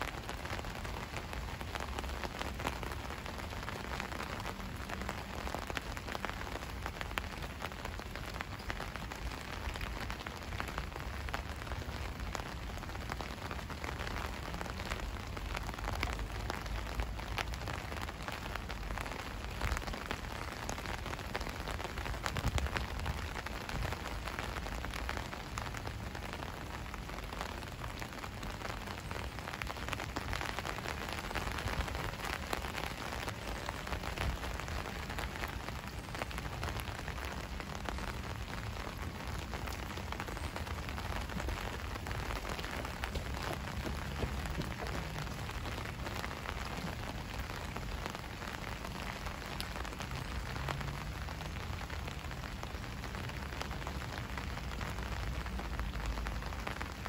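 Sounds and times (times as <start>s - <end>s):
raindrops ticking: 0.0s - 57.0s
steady rain falling: 0.0s - 57.0s.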